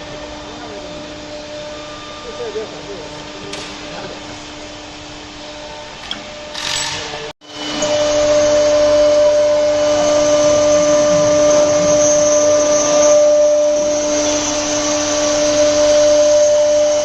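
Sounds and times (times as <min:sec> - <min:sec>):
router spindle whining: 0:00.0 - 0:17.0.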